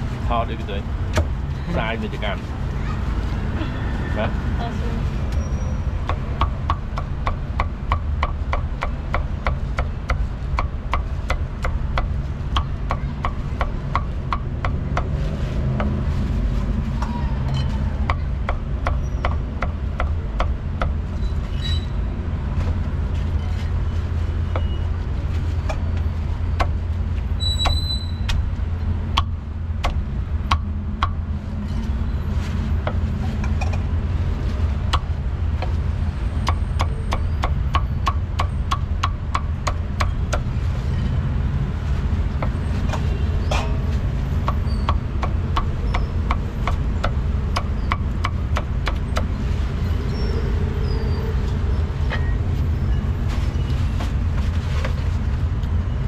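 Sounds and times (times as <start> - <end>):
street traffic rumble: 0.0 - 56.0.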